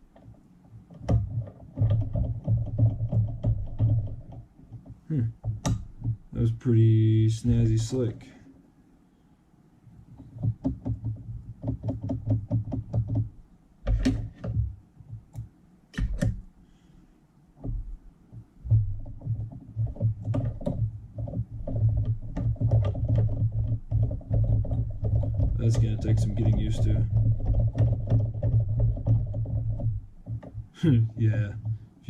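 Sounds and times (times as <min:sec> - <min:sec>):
low steady hum with ticking: 0:00.0 - 0:32.0.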